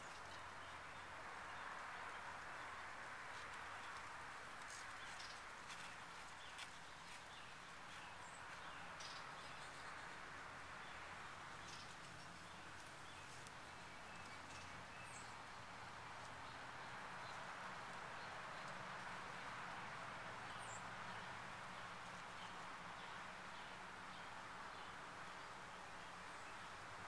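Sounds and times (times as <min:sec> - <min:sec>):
faint outdoor hiss: 0:00.0 - 0:27.0.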